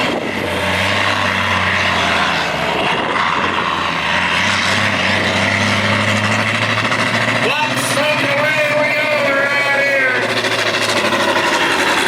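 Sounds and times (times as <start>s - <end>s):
vehicle engine running under load: 0.0s - 12.0s.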